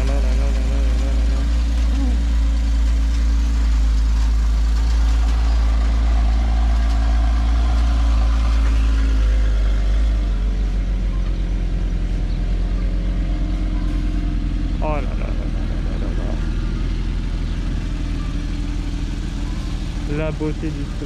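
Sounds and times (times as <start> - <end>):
car engine idling: 0.0 - 21.0
car engine pulsing rumble: 0.0 - 21.0.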